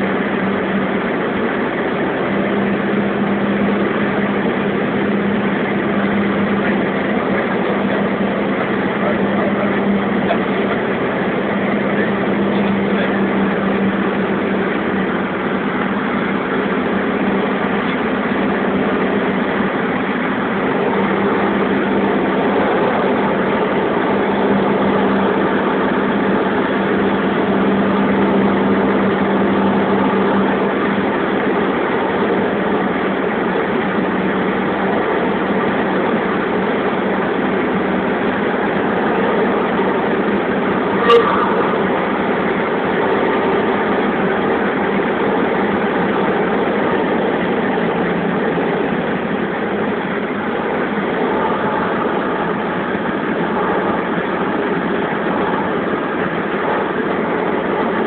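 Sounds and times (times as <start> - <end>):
propeller aircraft engine drone: 0.0 - 58.0.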